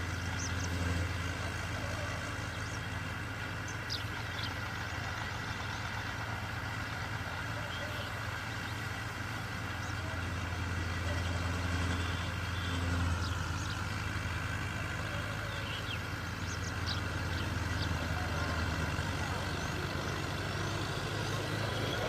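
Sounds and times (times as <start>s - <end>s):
harvesting machine engine humming: 0.0s - 22.0s.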